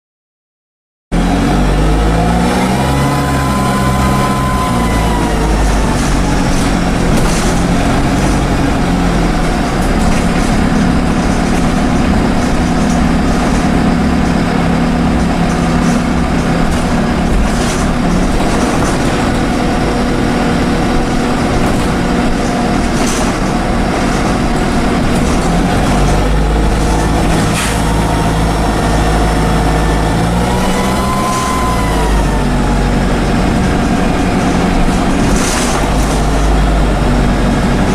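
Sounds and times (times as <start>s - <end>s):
bus diesel engine running: 1.2s - 37.9s
turbocharger whine: 1.2s - 37.9s.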